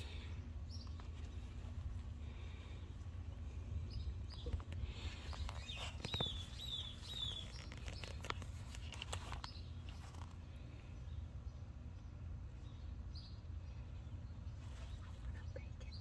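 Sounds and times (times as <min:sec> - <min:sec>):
bird chirping: 0:00.0 - 0:01.4, 0:03.8 - 0:16.0.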